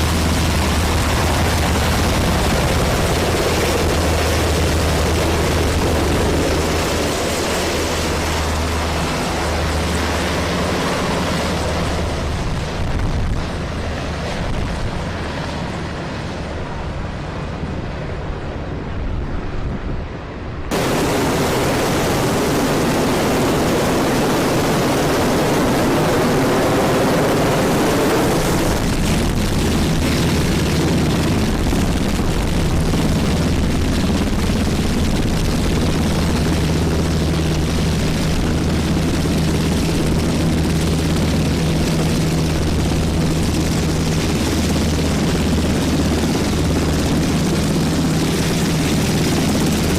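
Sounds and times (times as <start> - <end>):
helicopter rotors and turbine engines: 0.0 - 49.9.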